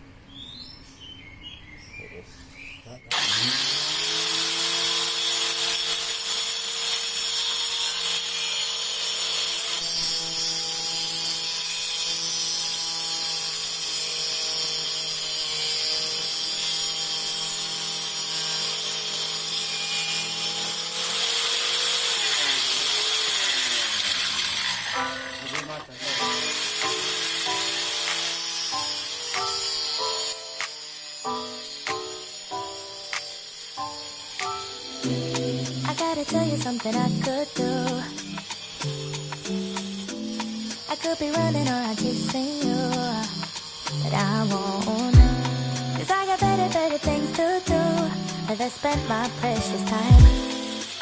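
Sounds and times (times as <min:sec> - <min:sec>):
saw blade cutting wood: 0:03.1 - 0:51.0
table saw motor running: 0:03.1 - 0:51.0.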